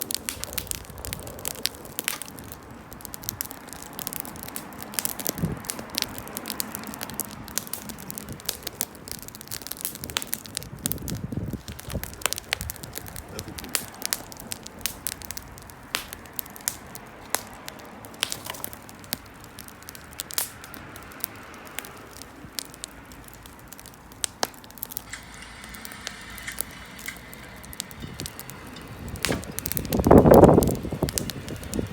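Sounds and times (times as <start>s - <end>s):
bonfire crackling and popping: 0.0s - 31.9s
fire hissing: 0.0s - 31.9s.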